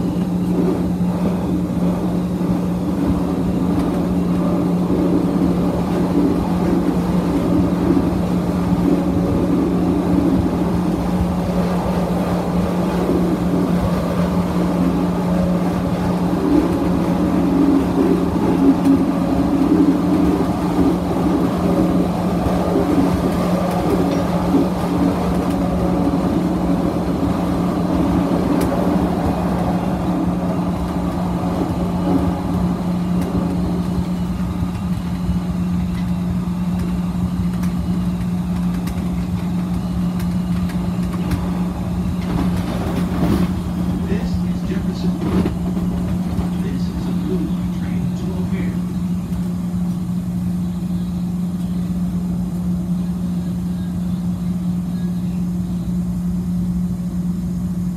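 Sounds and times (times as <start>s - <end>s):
constant low hum: 0.0s - 57.9s
train wheels rumbling on rails: 0.0s - 57.9s.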